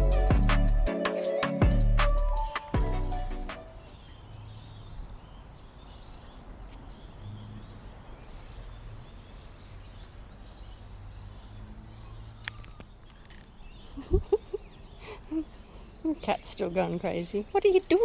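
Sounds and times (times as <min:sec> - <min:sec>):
small birds chirping: 0:03.5 - 0:18.0.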